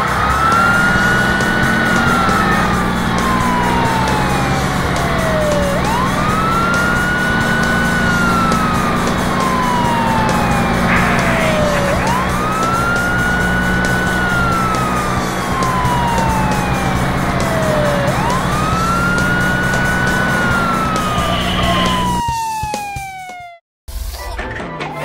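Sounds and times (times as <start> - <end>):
police siren wailing: 0.0 - 23.6.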